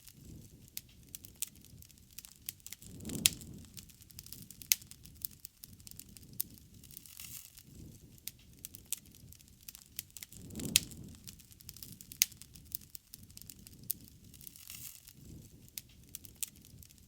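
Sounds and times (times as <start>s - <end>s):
bonfire crackling: 0.0s - 17.0s
burning wood popping: 0.0s - 17.0s
low swell of flame: 0.0s - 17.0s.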